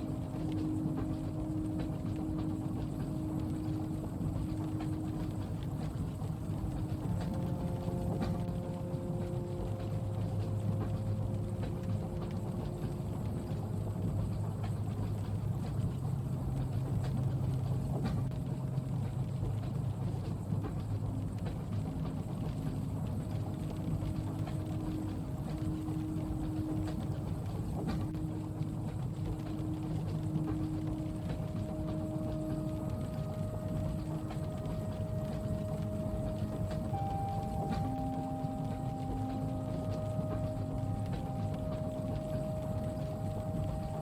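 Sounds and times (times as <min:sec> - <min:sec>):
faint humming tones: 0:00.0 - 0:44.0
rain ticking on window: 0:00.0 - 0:44.0
train rumbling from inside carriage: 0:00.0 - 0:44.0.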